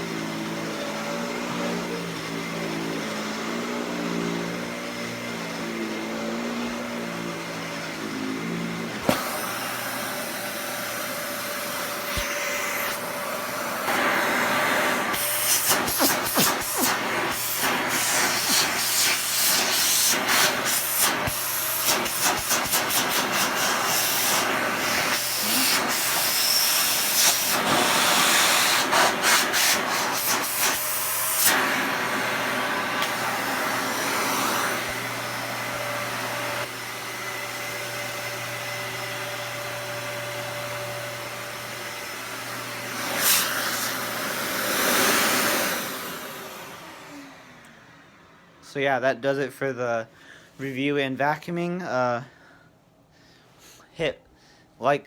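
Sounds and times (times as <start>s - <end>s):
vacuum cleaner running: 0.0s - 48.6s.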